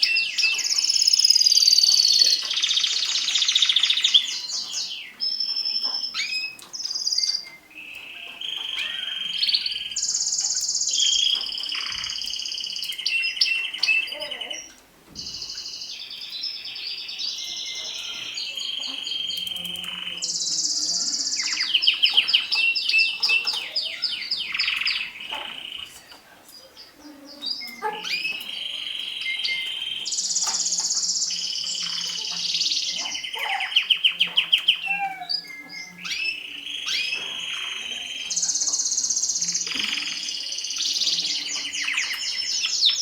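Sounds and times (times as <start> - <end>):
canary singing trills: 0.0 - 43.0.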